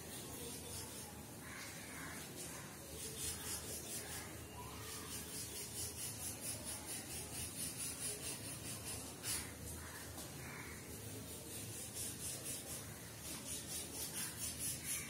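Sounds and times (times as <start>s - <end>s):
chalk scraping on blackboard: 0.0s - 1.3s, 2.1s - 10.2s, 10.8s - 15.0s.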